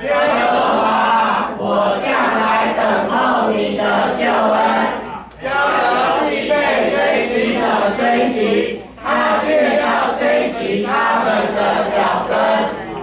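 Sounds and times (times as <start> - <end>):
children chanting in unison: 0.0 - 13.0.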